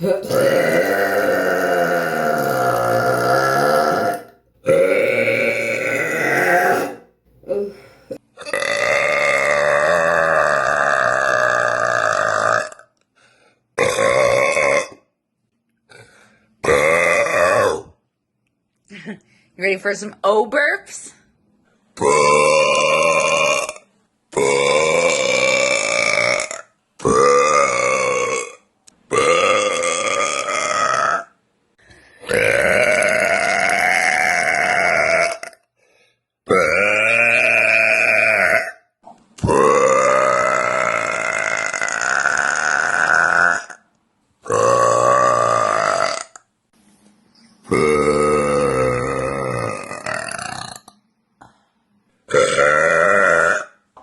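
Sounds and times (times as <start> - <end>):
woman burping loudly: 0.0 - 13.0, 13.8 - 15.1, 16.6 - 18.0, 22.0 - 31.4, 32.2 - 35.7, 36.5 - 46.5, 47.7 - 51.0, 52.3 - 54.0.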